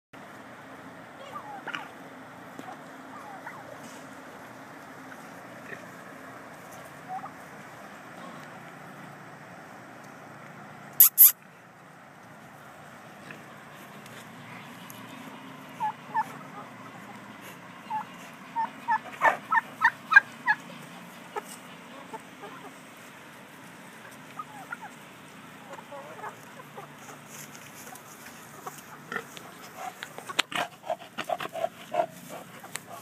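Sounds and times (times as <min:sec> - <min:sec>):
chickens clucking: 0:01.2 - 0:08.5, 0:13.2 - 0:33.0.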